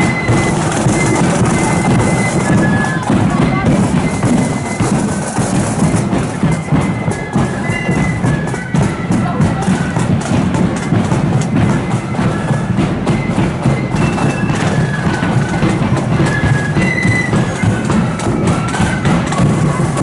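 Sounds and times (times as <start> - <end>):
bass drum beats: 0.0 - 20.0
marching band playing: 0.0 - 20.0
wind instrument melody: 0.0 - 20.0.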